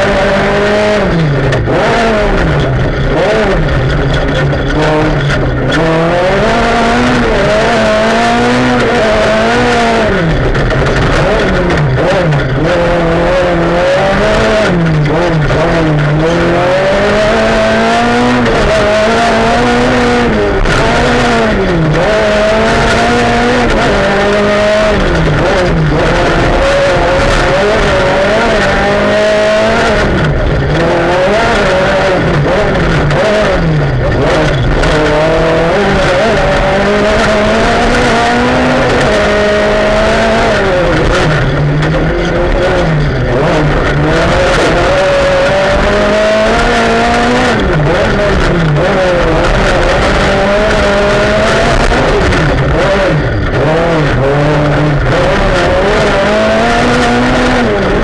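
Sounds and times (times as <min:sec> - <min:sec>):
gravel and road noise: 0:00.0 - 0:58.0
rally car engine revving: 0:00.0 - 0:58.0.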